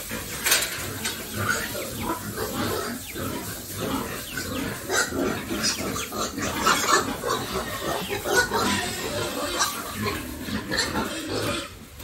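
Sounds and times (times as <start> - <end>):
pigs grunting and squealing: 0.0 - 12.0.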